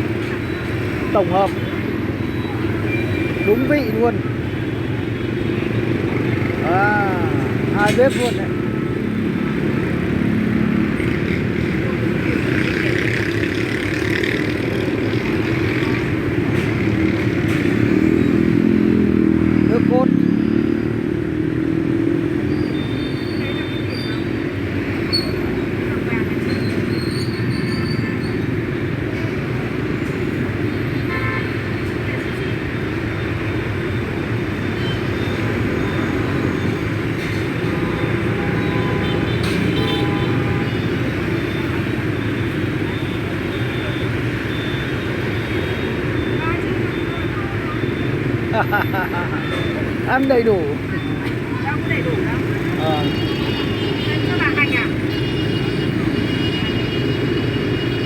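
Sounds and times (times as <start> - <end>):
motorbike engines rumbling: 0.0 - 58.0
vehicles passing: 0.0 - 58.0.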